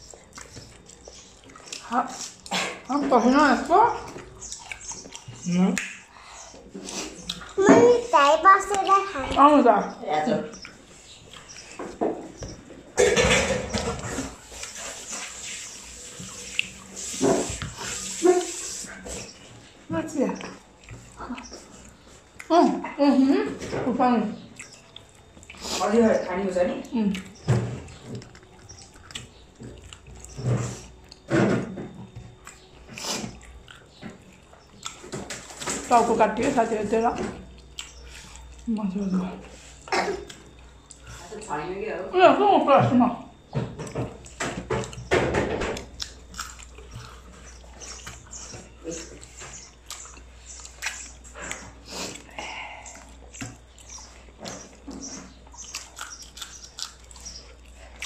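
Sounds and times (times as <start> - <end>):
chewing and mouth smacks: 0.0 - 2.9, 4.0 - 7.6, 8.6 - 12.8, 13.4 - 23.0, 24.4 - 25.8, 27.1 - 31.3, 31.9 - 35.9, 37.1 - 41.2, 43.3 - 58.0
food crunching: 0.0 - 22.9, 24.4 - 41.2, 43.3 - 58.0.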